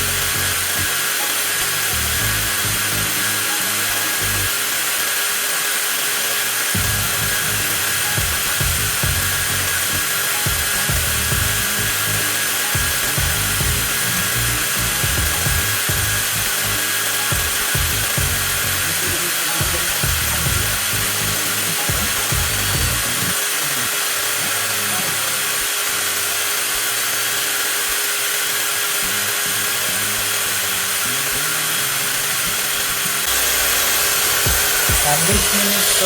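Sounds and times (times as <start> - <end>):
angle grinder motor whine: 0.0 - 36.0.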